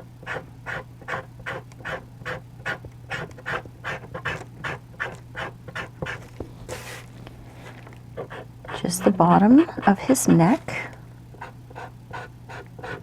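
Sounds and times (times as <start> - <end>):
eraser rubbing on paper: 0.2 - 10.6, 11.4 - 13.0.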